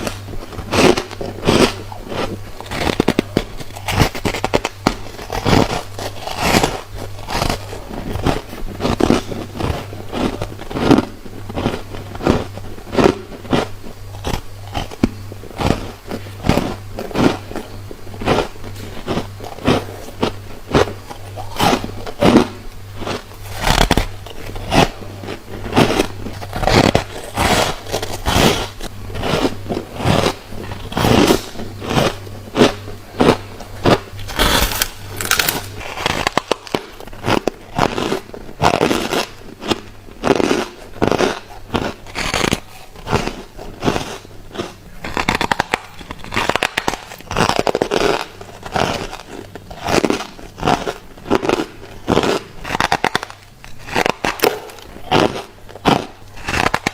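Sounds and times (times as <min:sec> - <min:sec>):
person chewing crunchy frost: 0:00.0 - 0:56.9.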